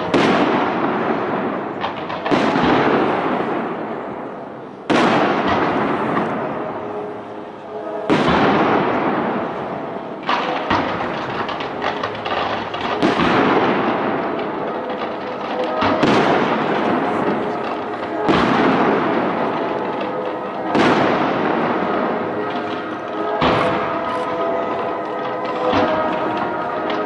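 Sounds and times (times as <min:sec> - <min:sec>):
fireworks bursting with bangs: 0:00.0 - 0:27.0
rumbling echo and crackle: 0:00.0 - 0:27.0.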